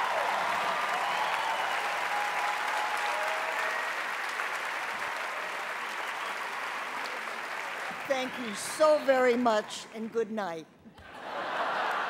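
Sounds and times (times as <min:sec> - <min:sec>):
large audience applauding: 0:00.0 - 0:09.5, 0:11.1 - 0:12.0.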